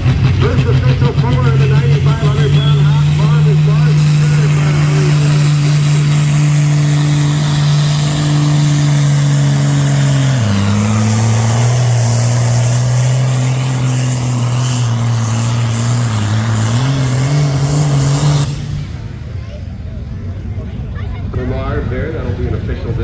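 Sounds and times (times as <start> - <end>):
tractor engine running hard: 0.0 - 19.3.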